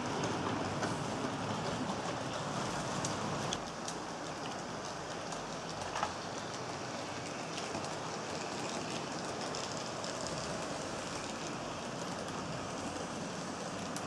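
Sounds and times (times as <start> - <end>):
model trains rolling on metal track: 0.0 - 14.0.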